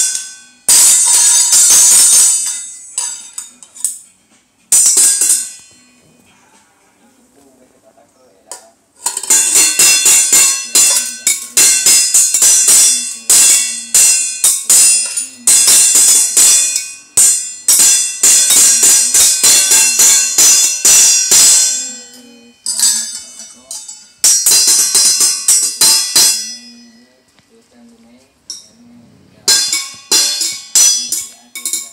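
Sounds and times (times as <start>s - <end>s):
pots and lids clanging: 0.0s - 4.0s, 4.7s - 6.2s, 8.5s - 27.1s, 29.4s - 31.9s.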